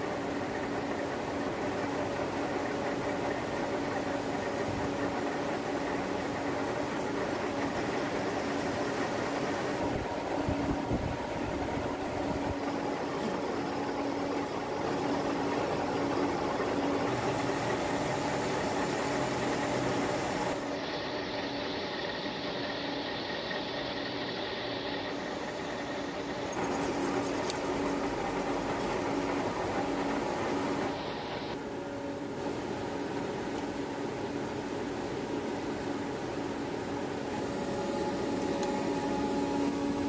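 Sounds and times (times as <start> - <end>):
metal lathe motor hum: 0.0 - 40.0.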